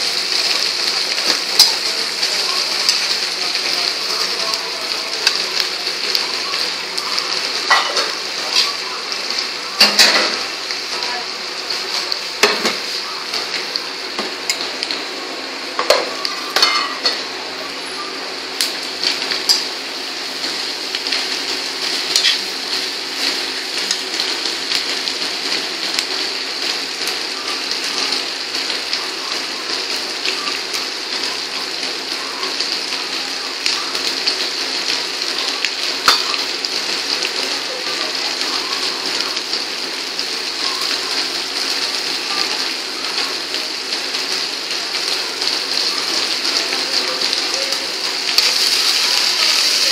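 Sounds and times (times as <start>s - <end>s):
vegetables sizzling in oil: 0.0s - 49.9s.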